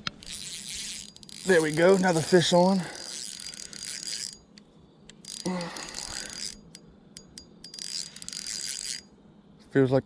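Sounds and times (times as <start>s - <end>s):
fishing reel clicks: 0.2s - 9.1s
fishing reel whirring: 0.2s - 9.1s.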